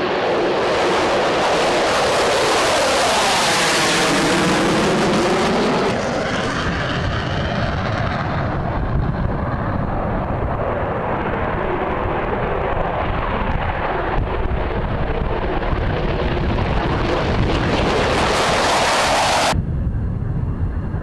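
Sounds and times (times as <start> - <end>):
jet engine rumble on takeoff: 0.0 - 21.0
jet flyby roar: 0.0 - 21.0.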